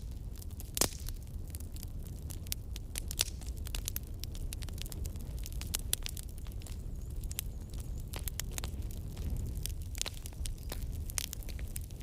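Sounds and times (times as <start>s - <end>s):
campfire crackling and popping: 0.0s - 12.0s
low fire rumble: 0.0s - 12.0s.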